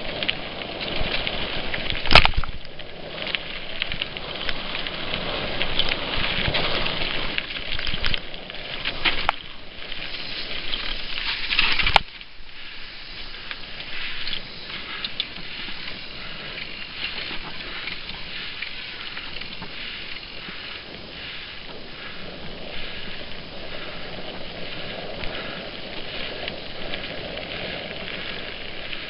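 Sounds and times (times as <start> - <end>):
bike rattling and knocking: 0.0 - 12.2, 13.3 - 29.0
bike tyres rolling over dirt: 0.0 - 29.0.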